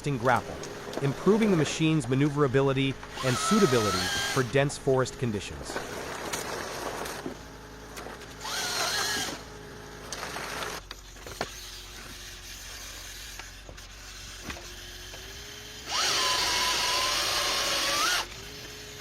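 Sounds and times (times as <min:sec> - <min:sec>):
forestry machine running: 0:00.0 - 0:14.1, 0:14.9 - 0:19.0
harvester saw cutting: 0:00.0 - 0:19.0.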